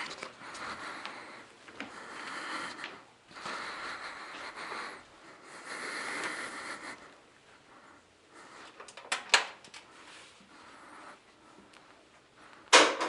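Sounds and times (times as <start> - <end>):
person breathing close to microphone: 0.0 - 9.0, 9.8 - 12.9.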